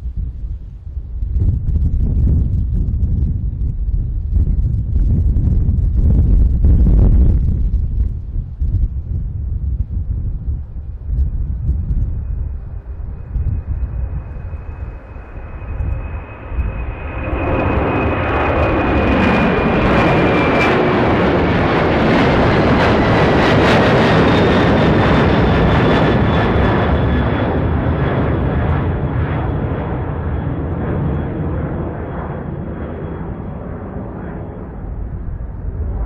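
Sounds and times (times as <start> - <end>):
high engine whine: 0.0 - 36.0
jet airliner taking off: 0.0 - 36.0
wind rumbling on microphone: 0.0 - 36.0.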